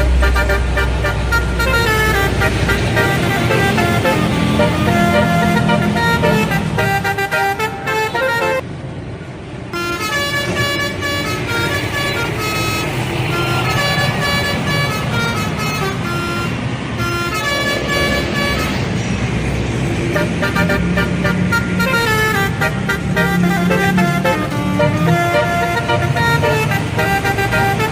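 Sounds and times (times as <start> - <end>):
multi-tone air horn melody: 0.0 - 8.6, 9.8 - 27.9
bus engine running: 0.0 - 27.9.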